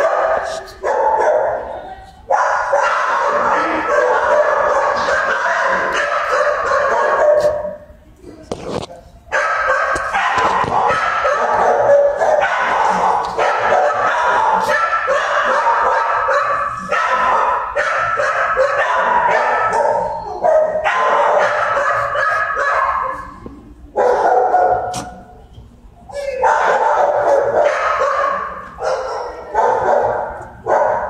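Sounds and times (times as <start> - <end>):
many dogs barking and yipping: 0.0 - 7.8, 9.3 - 25.0, 26.4 - 31.0.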